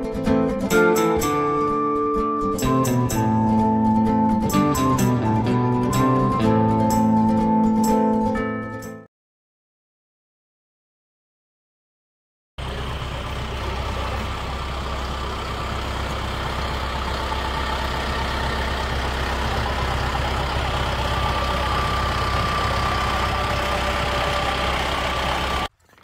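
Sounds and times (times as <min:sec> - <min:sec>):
tractor diesel engine running: 0:00.0 - 0:08.8, 0:12.6 - 0:26.0.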